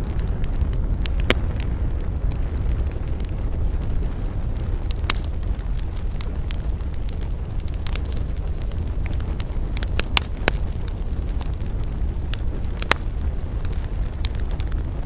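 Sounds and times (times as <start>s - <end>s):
campfire flames rumbling: 0.0s - 15.0s
crackles and pops of burning wood: 0.0s - 15.0s.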